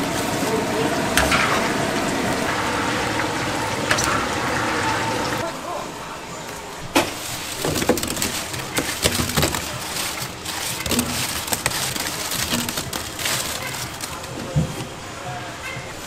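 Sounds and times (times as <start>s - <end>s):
fried food clattering into pot: 0.0s - 5.4s, 6.9s - 14.9s.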